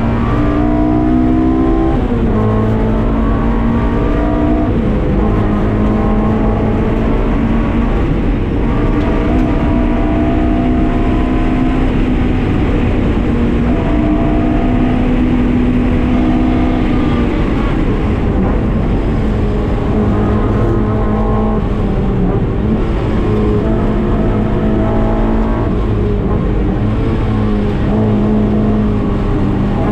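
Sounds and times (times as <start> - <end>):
car engine running hard: 0.0 - 29.9.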